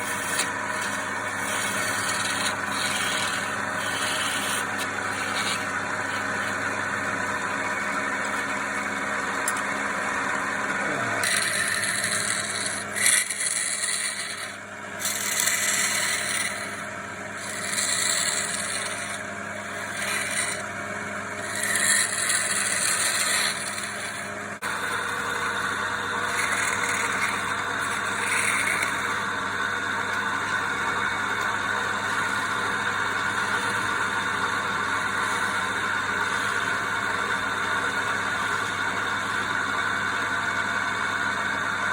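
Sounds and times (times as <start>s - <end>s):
tool scraping spinning wood: 0.0s - 39.1s
wood lathe motor hum: 0.0s - 41.9s.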